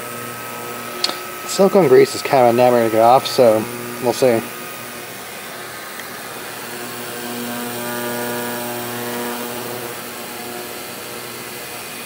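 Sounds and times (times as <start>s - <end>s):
ultrasonic cleaner buzzing: 0.0s - 12.0s
liquid hissing: 0.8s - 11.2s.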